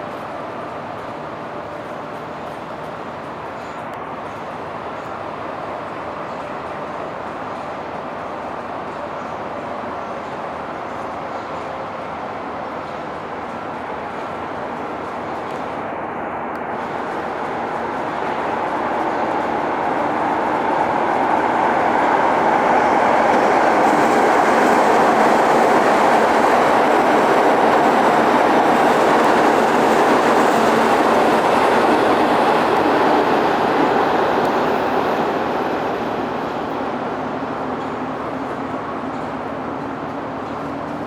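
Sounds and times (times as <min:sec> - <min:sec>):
passing train rumble: 0:00.0 - 0:41.0.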